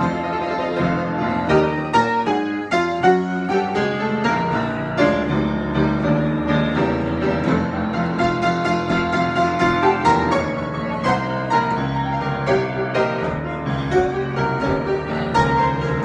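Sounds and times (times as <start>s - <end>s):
solo piano improvisation: 0.0s - 16.0s.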